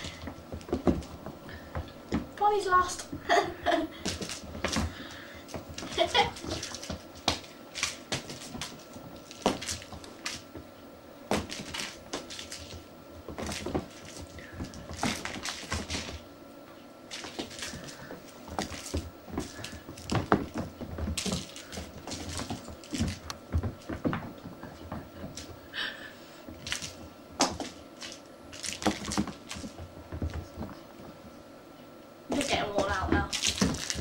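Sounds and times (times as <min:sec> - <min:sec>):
kittens scuffling on carpet: 0:00.0 - 0:31.4.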